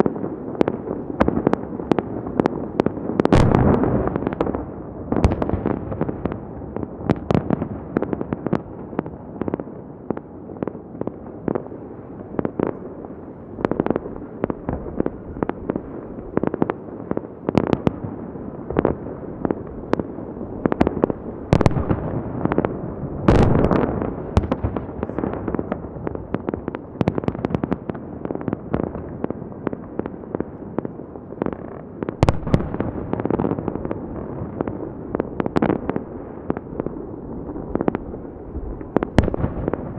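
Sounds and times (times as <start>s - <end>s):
fireworks booming bursts: 0.0s - 39.9s
rumble of echoing explosions: 0.0s - 39.9s.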